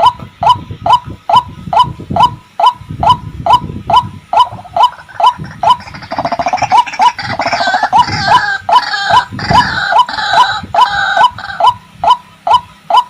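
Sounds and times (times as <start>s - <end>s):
waterhen calling: 0.9s - 12.2s.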